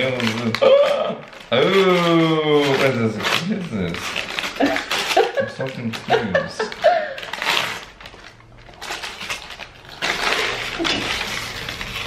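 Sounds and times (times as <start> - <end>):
wrapping paper tearing and crinkling: 0.0 - 12.0.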